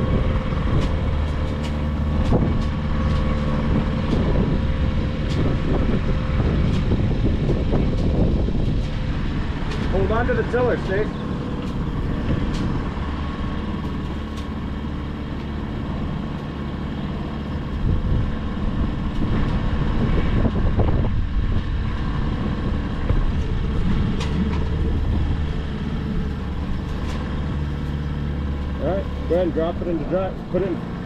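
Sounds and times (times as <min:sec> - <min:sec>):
outboard motor idling: 0:00.0 - 0:31.0.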